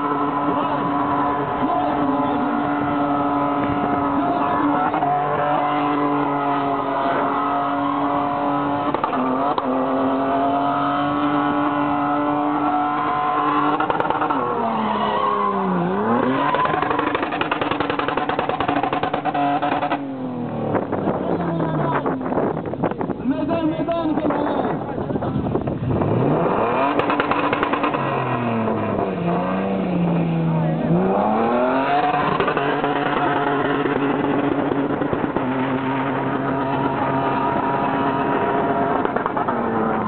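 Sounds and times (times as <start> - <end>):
engine at high revs: 0.0 - 22.4, 25.8 - 40.0.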